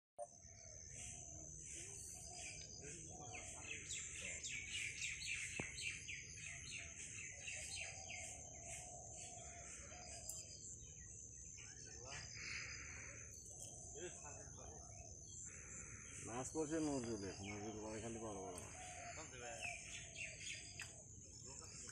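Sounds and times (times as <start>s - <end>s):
birds singing and calling: 0.3s - 21.9s.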